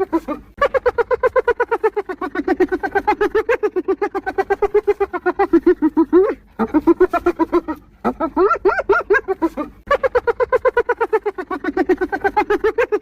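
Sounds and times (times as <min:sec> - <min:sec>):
hyena giggling: 0:00.0 - 0:13.0.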